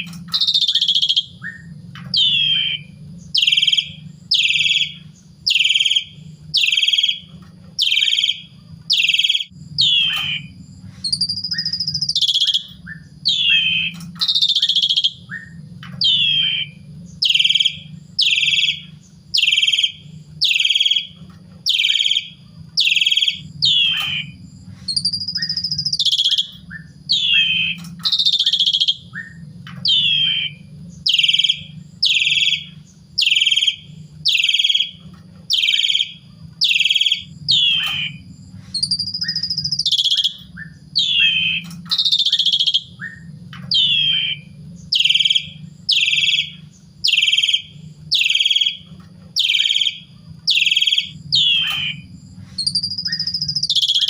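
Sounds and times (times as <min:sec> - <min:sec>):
low hum: 0:00.0 - 0:54.0
starling calling: 0:00.0 - 0:54.0.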